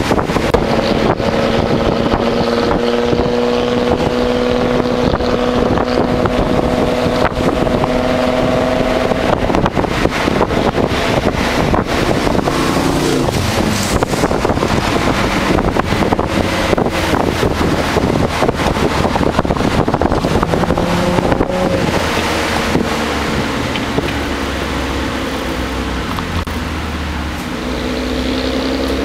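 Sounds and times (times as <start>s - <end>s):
car engine from inside cabin: 0.0s - 29.0s
road and wind noise: 0.0s - 29.0s.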